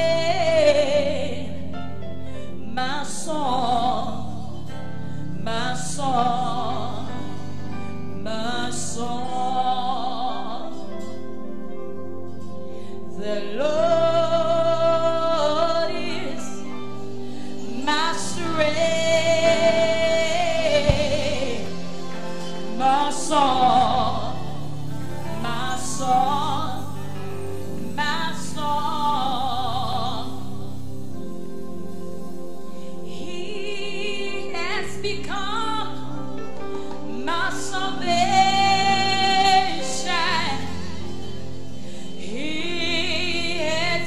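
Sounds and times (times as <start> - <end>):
woman singing into microphone: 0.0 - 11.8, 13.0 - 31.3, 32.8 - 44.0
instrumental backing music: 0.0 - 44.0.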